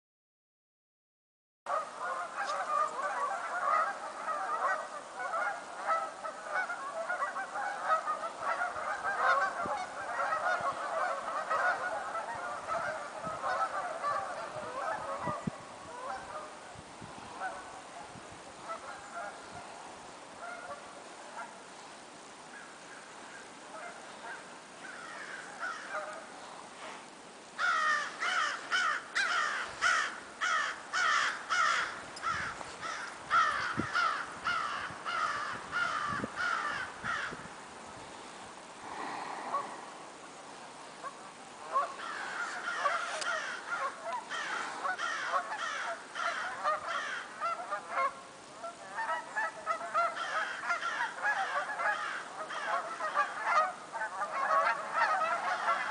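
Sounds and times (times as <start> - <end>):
flock of birds calling: 1.7 - 16.6, 17.3 - 21.6, 22.5 - 26.9, 27.6 - 39.8, 40.5 - 55.9.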